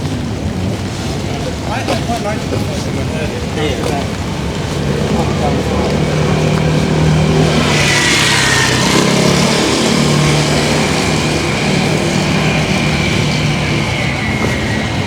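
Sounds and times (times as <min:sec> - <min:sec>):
car engine hum: 0:00.0 - 0:15.0
tyre hiss on wet street: 0:00.0 - 0:15.0.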